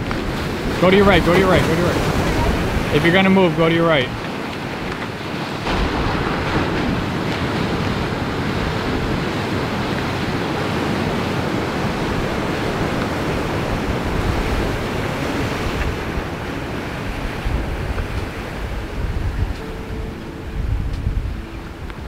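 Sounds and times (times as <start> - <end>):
surf breaking over rocks: 0.0 - 22.0
wind gusting on microphone: 0.0 - 22.0.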